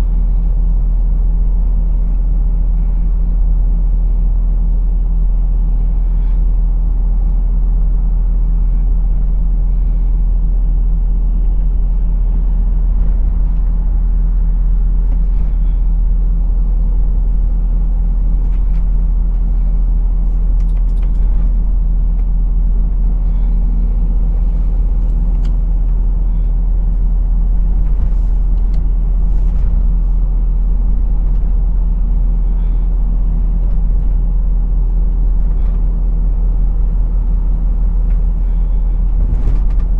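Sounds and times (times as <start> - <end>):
lorry diesel engine drone: 0.0 - 39.9.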